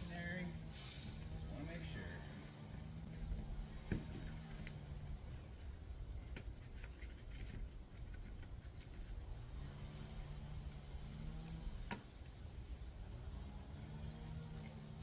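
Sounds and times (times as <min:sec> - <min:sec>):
faint engine hum: 0:00.0 - 0:15.0
low steady rumble: 0:00.0 - 0:15.0.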